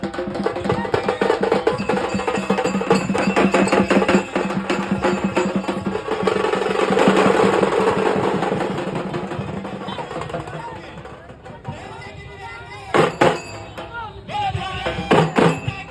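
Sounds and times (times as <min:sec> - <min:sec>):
fast dense drumming: 0:00.0 - 0:12.0, 0:12.9 - 0:15.9.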